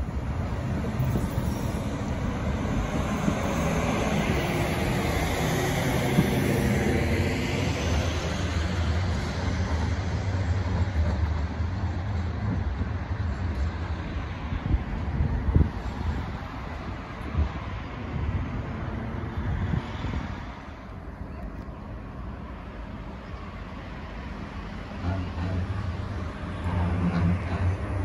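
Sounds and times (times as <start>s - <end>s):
tram wheels rumbling on rail: 0.0s - 28.0s.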